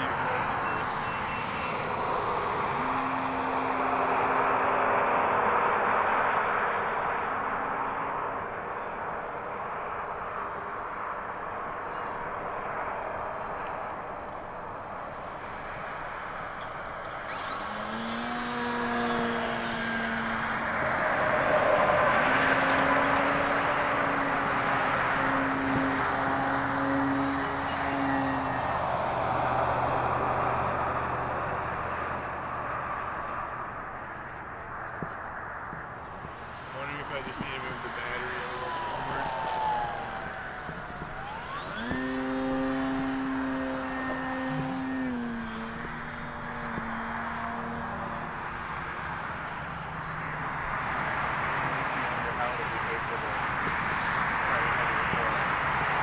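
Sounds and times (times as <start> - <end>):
model airplane motor droning: 0.0 - 56.0.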